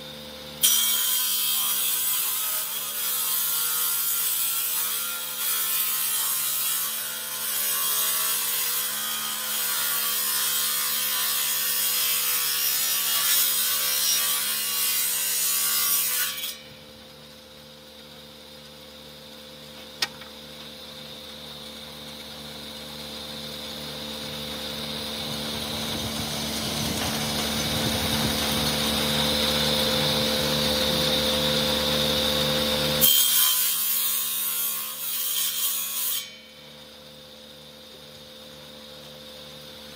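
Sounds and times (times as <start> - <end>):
table saw cutting wood: 0.0 - 37.8
saw motor humming: 2.6 - 35.0.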